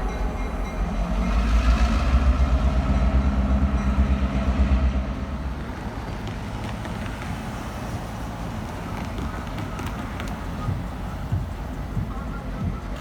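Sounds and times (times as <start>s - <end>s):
diesel locomotive engines rumbling: 0.0s - 13.0s
train rolling: 0.0s - 13.0s.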